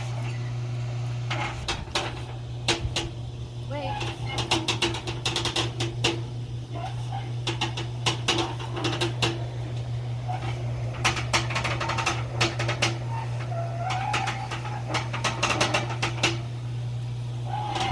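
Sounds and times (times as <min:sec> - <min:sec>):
low steady hum: 0:00.0 - 0:17.9
metallic clicks on gutters: 0:00.0 - 0:17.9.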